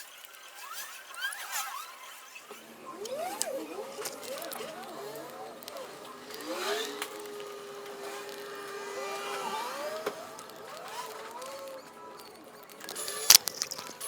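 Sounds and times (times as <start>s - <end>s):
small electric motor whining: 2.5s - 14.0s.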